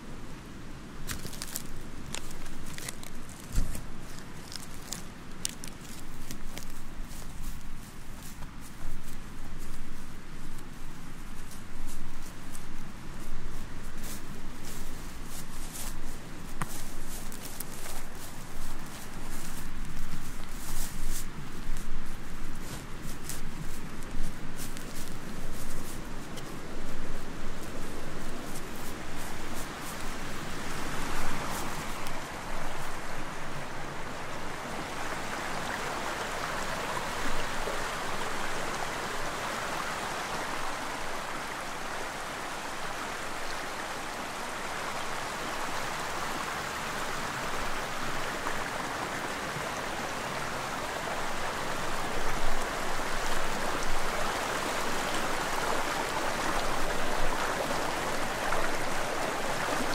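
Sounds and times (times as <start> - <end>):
stream water flowing over stones: 0.0 - 59.9.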